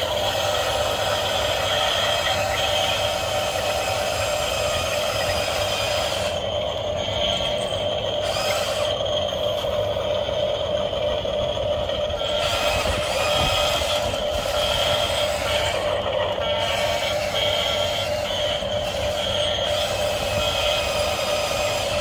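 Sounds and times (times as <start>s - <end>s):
toy electric motors whirring: 0.0s - 22.0s.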